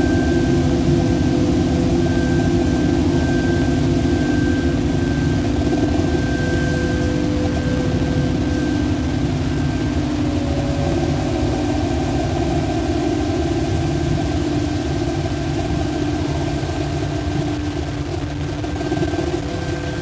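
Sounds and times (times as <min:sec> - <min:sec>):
high whistle-like tone: 0:00.0 - 0:17.6
low rumbling drone with tones: 0:00.0 - 0:20.0.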